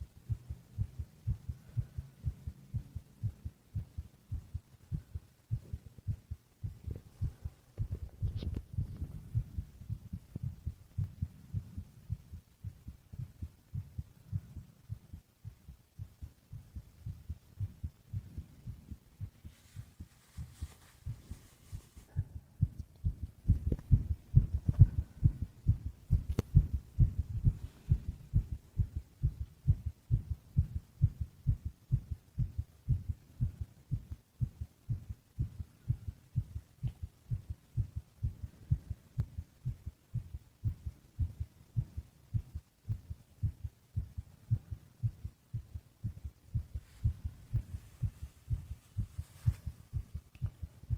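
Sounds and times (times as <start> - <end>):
heartbeat thumps: 0.0 - 50.9.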